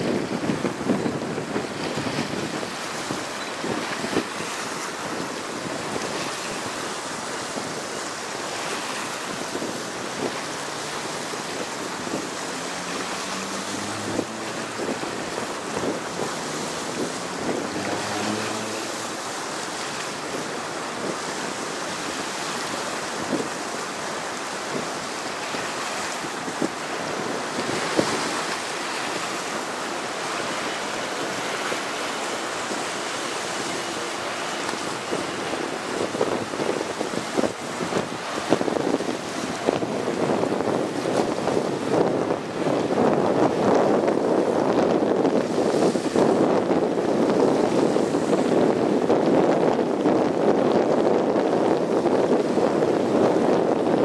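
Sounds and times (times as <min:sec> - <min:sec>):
river waves lapping: 0:00.0 - 0:54.0
wash of a passing ship: 0:00.0 - 0:54.0
wind rumbling on microphone: 0:00.0 - 0:54.0.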